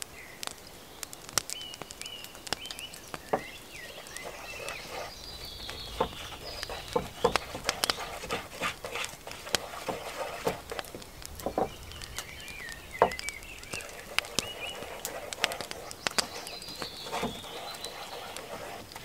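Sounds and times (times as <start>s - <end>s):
twig whisk beating batter in bowl: 3.3s - 19.0s.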